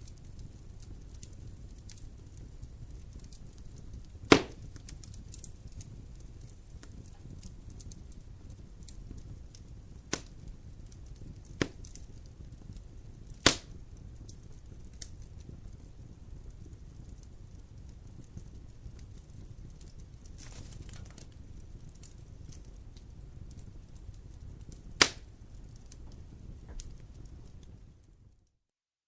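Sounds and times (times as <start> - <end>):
sharp fire pops: 0.0 - 28.3
wood fire crackling: 0.0 - 28.6.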